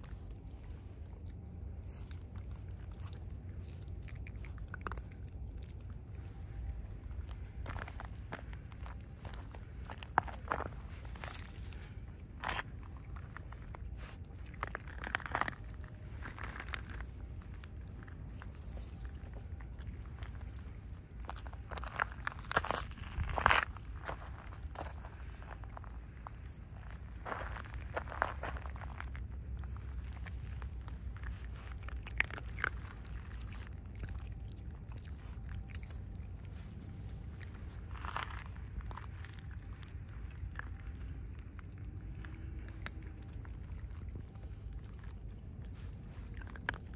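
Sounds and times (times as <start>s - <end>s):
animals crunching dry food: 0.0s - 46.9s
steady low rumble: 0.0s - 46.9s.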